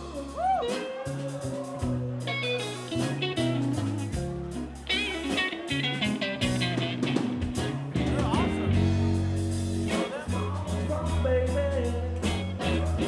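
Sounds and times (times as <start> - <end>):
bass: 0.0 - 13.0
drums: 0.0 - 13.0
electric guitar lead: 0.0 - 13.0.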